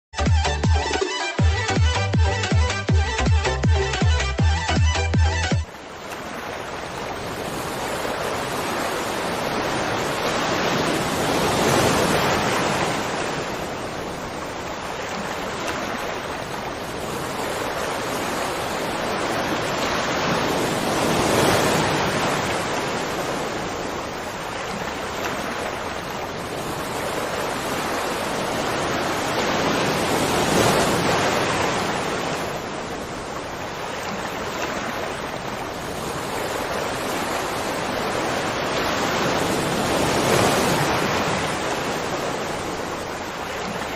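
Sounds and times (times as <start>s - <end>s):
rushing water: 0.2s - 43.9s.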